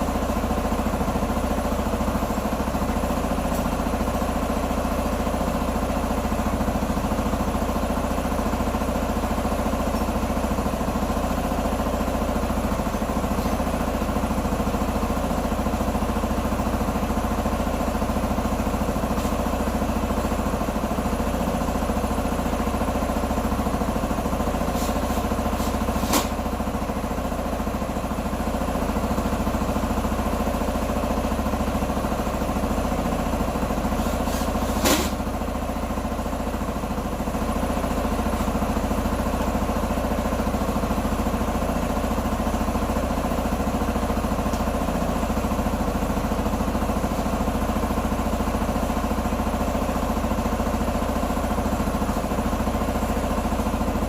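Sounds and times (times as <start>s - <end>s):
motorbike engine idling: 0.0s - 54.0s.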